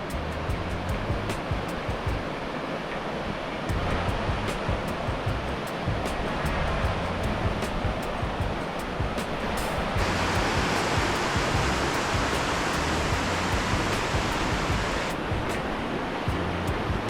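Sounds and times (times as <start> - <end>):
background music with low beat: 0.0 - 2.5, 3.7 - 17.0
flowing water rushing: 0.0 - 17.0.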